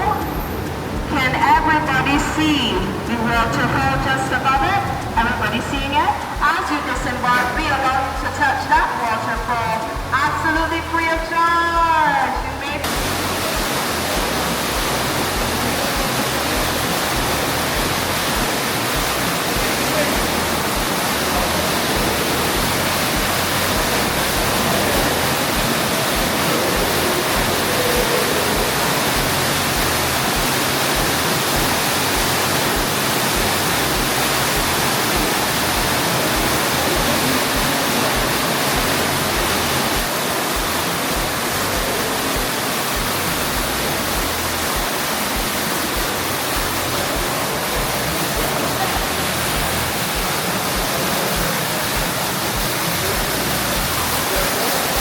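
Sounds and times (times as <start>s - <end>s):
waterfall crashing into pool: 0.0s - 55.0s.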